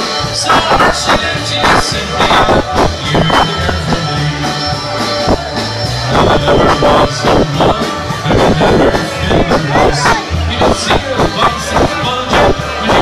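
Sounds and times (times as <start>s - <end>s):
loud dance music: 0.0s - 13.0s.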